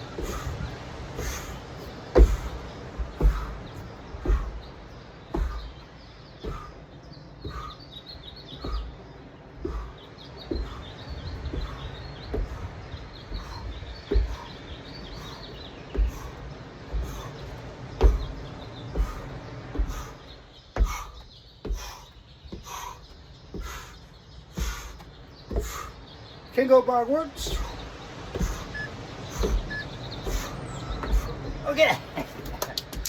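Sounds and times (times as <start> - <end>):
hands and feet thudding on ground: 0.0 - 26.1, 27.4 - 33.0
birds chirping: 0.0 - 33.0.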